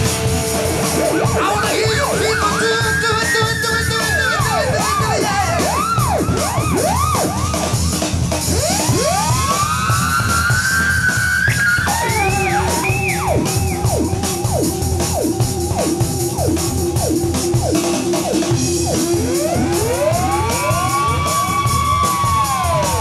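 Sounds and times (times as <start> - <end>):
drums: 0.0 - 23.0
theremin glides and swoops: 0.8 - 23.0.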